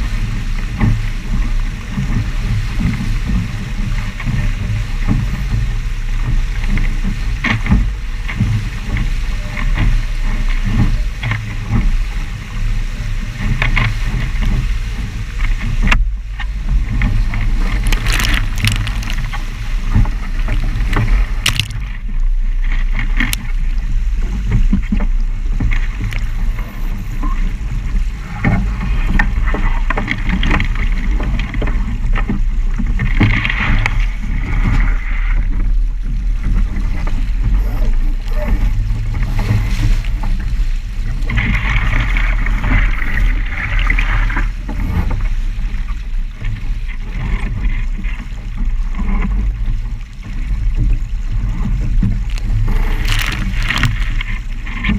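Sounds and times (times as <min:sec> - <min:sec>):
water rushing past hull: 0:00.0 - 0:54.9
water slaps and spray splashes: 0:00.0 - 0:54.9
wind buffeting microphone: 0:00.0 - 0:54.9.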